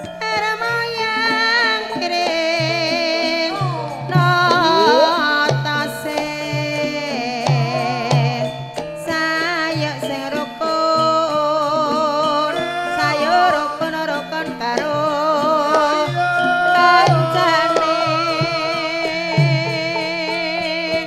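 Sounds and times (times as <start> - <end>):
metallophone tones: 0.0 - 21.0
woman singing with vibrato: 0.0 - 21.0.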